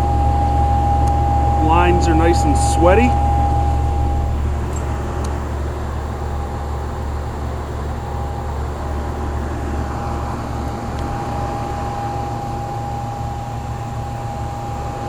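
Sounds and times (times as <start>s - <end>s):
heat pump unit humming: 0.0s - 15.0s
steady whine: 0.0s - 15.0s.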